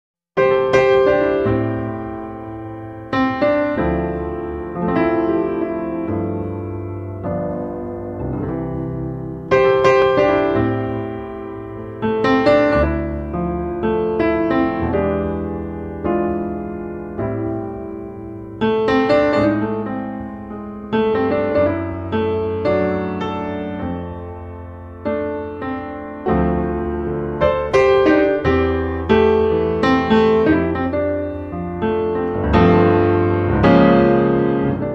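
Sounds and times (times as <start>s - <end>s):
piano music: 0.4s - 34.9s.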